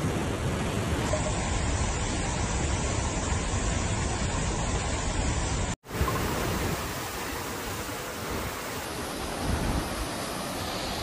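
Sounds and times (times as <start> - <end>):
fast-flowing river: 0.0 - 11.0
waterfall rushing: 0.5 - 11.0.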